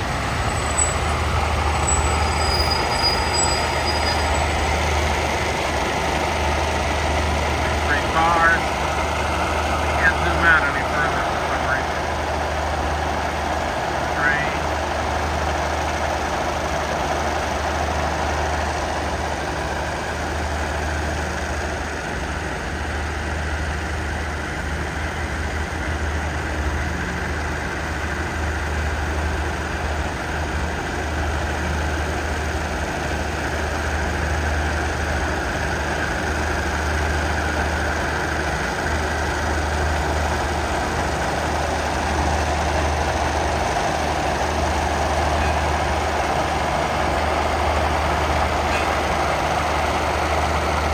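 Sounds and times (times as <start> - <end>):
diesel train engine humming: 0.0 - 50.9.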